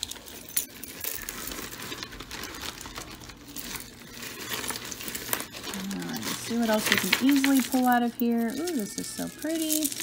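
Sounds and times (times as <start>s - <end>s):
jewelry pieces clinking together: 0.0s - 10.0s
plastic bag crinkling and rustling: 0.0s - 10.0s.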